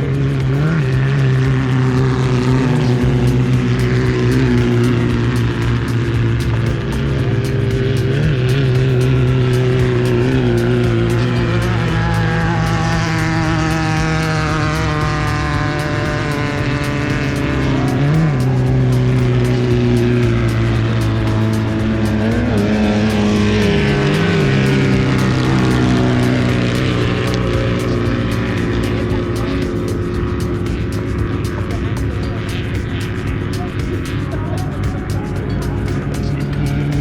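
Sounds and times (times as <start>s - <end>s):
race vehicle engine running: 0.0s - 37.0s.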